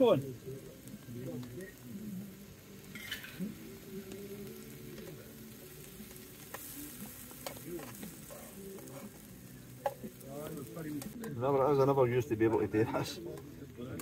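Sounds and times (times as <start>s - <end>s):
mushrooms sizzling in a frying pan: 0.0s - 14.0s.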